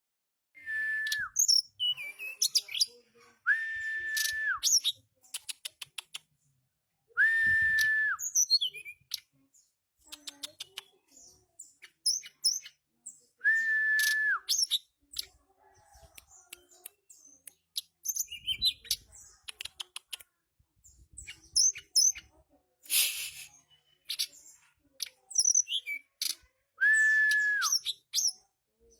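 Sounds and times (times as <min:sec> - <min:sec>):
songbird chirping: 0:00.6 - 0:28.9.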